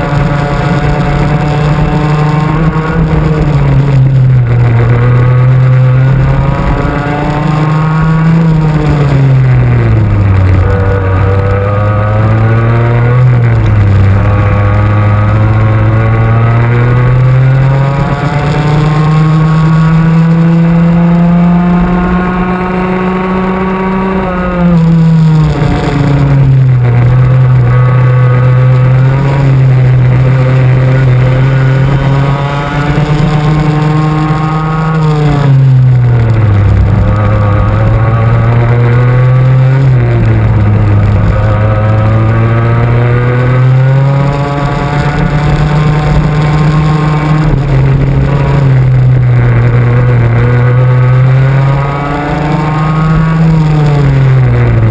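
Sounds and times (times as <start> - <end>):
kart engine at full throttle: 0.0 - 54.9.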